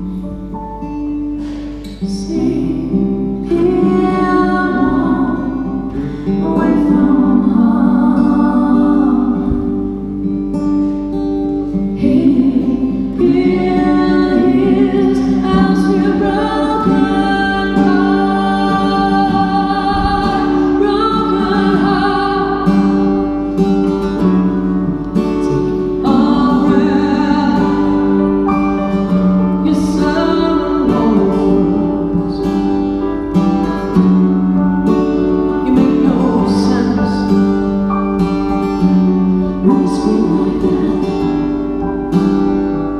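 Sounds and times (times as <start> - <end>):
acoustic guitar: 0.0 - 42.9
woman singing slow ballad: 0.0 - 42.9.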